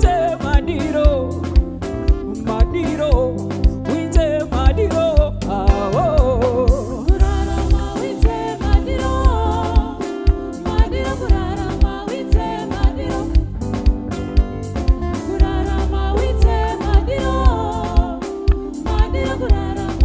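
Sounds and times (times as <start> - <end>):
woman singing: 0.0 - 1.4, 2.4 - 13.6, 15.1 - 20.0
live band playing: 0.0 - 20.0.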